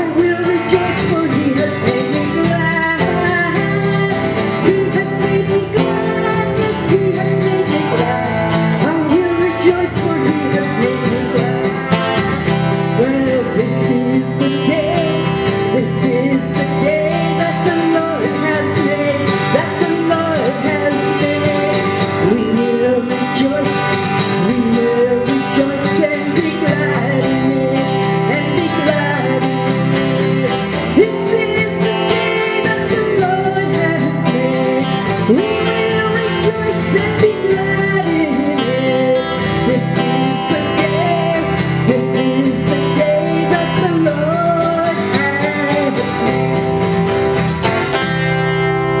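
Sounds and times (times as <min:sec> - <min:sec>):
woman singing into a microphone: 0:00.0 - 0:48.7
electric guitars playing: 0:00.0 - 0:49.0
strummed acoustic guitar: 0:00.0 - 0:49.0.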